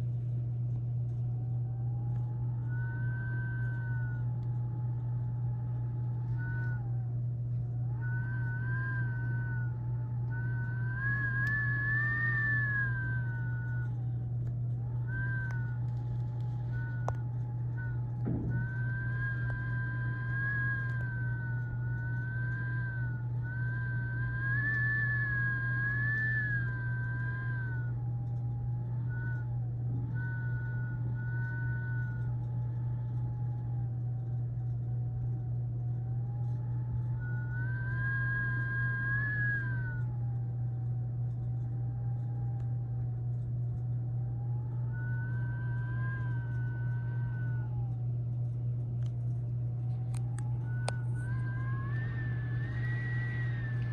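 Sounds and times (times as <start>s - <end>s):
wind howling and whistling: 0.0s - 43.0s, 43.9s - 53.9s
steady low hum: 0.0s - 53.9s.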